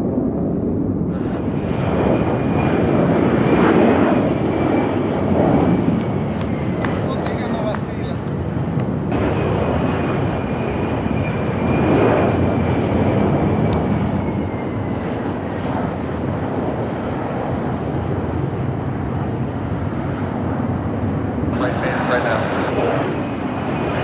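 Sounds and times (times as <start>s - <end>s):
faint jet whine: 0.0s - 24.0s
jet engine rush: 0.0s - 24.0s.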